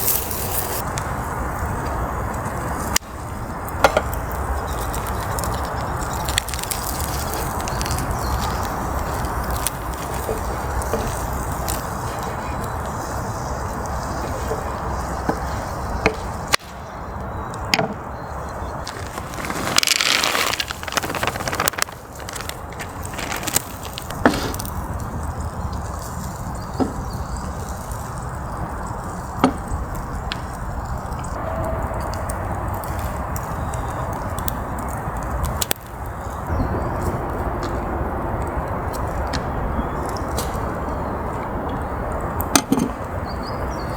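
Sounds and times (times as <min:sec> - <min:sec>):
campfire crackling: 0:00.0 - 0:17.6, 0:18.2 - 0:37.5.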